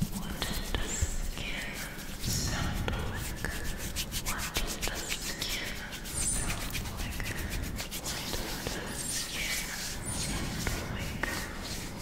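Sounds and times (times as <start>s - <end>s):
hands rubbing on microphone: 0.0s - 12.0s.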